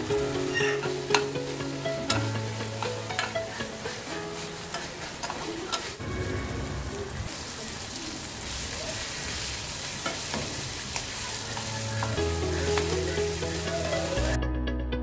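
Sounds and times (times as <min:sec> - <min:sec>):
mussels sizzling in a pan: 0:00.0 - 0:14.4.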